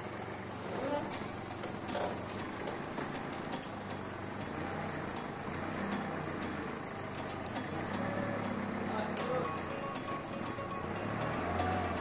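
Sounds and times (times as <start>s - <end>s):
forklift engine droning: 0.0s - 12.0s.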